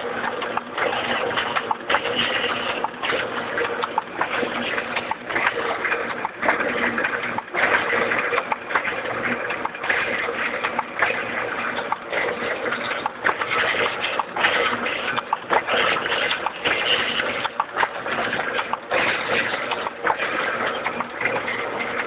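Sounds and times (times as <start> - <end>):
printing press running: 0.0 - 22.0.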